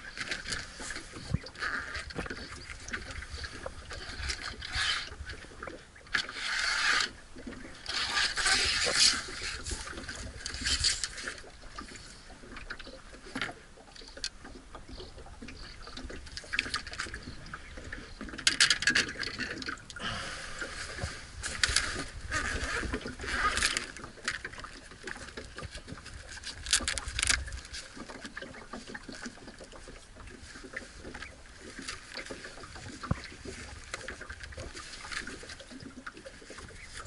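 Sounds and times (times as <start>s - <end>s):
water splashing against boat hull: 0.0s - 37.0s.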